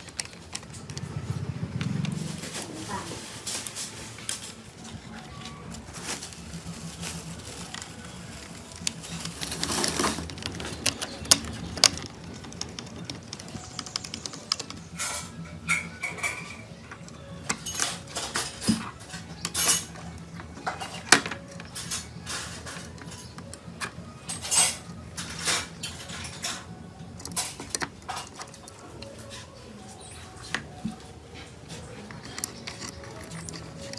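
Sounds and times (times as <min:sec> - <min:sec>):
plastic parts clicking and snapping: 0:00.0 - 0:02.2, 0:07.1 - 0:33.9.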